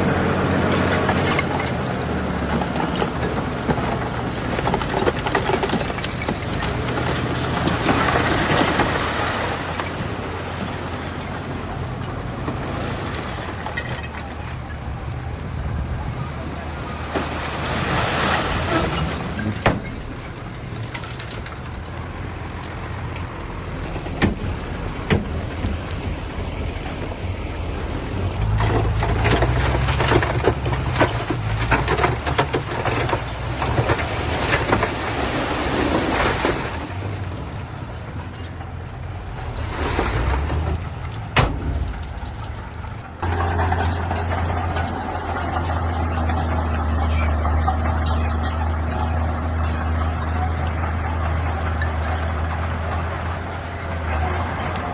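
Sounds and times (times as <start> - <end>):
dense clattering: 0.0 - 54.9
heavy machinery diesel engine: 0.0 - 54.9.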